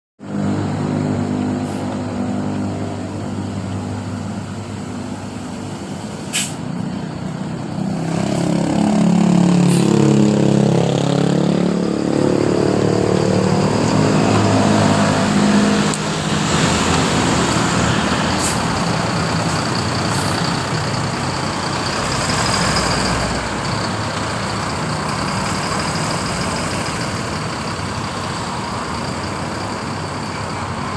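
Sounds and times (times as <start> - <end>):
vehicle and road noise: 0.2 - 30.9.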